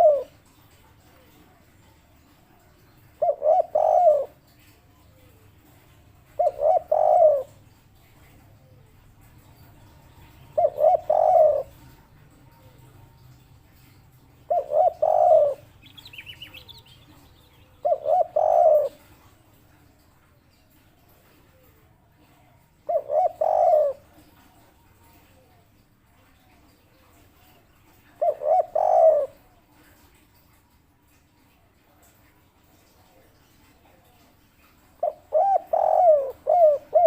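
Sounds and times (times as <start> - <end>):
dove cooing: 0.0 - 30.2, 32.8 - 37.0
faint bird chirping: 0.0 - 37.0.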